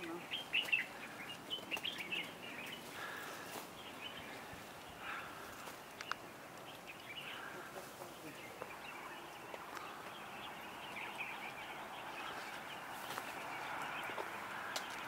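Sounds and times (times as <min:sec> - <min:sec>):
faint background noise: 0:00.0 - 0:15.0
small birds chirping: 0:00.0 - 0:15.0.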